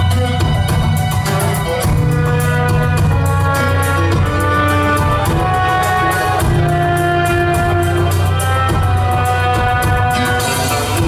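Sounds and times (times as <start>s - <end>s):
light percussion beat: 0.0s - 11.0s
music with held melody and bass: 0.0s - 11.0s.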